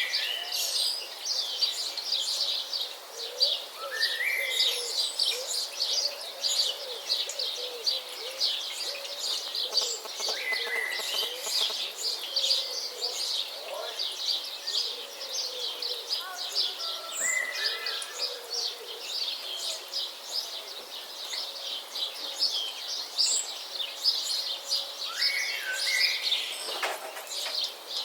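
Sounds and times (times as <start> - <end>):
birds chirping and twittering: 0.0 - 28.0.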